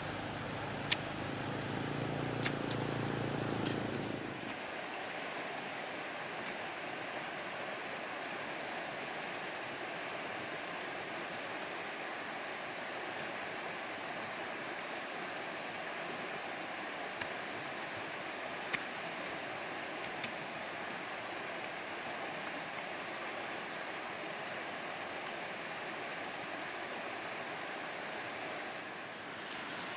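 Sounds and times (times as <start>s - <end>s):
flowing water rushing: 0.0s - 29.9s.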